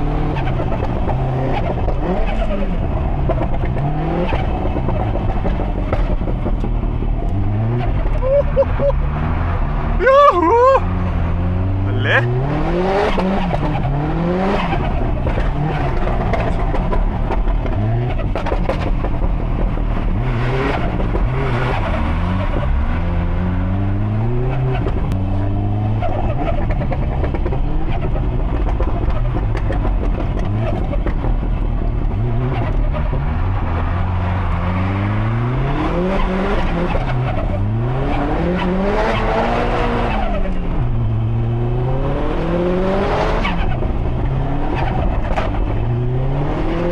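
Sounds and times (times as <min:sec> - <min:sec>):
turbocharged car engine revving: 0:00.0 - 0:46.9.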